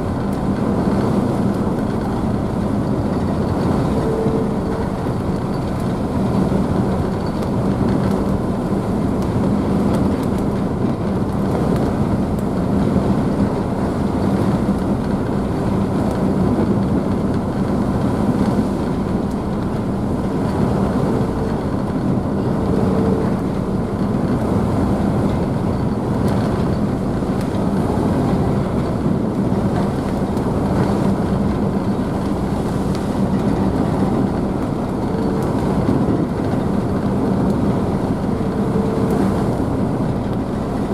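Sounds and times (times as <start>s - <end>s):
rushing wake and spray: 0.0s - 40.9s
ship engines humming: 0.0s - 40.9s.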